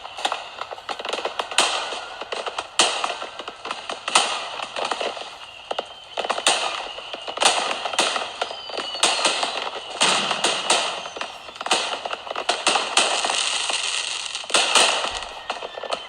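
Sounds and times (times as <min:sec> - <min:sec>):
faint whistle: 0:00.0 - 0:16.0
fireworks bangs: 0:00.0 - 0:16.0
fireworks crackling: 0:00.0 - 0:16.0.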